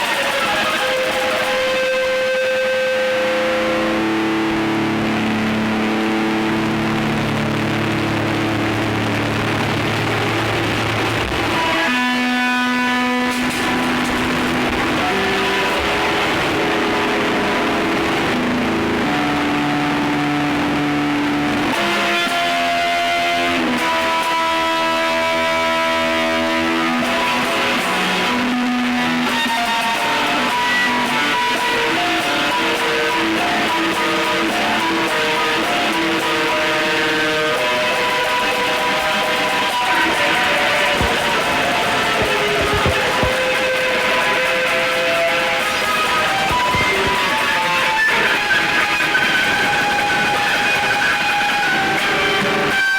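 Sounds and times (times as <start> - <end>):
droning ambient music: 0.0 - 52.9.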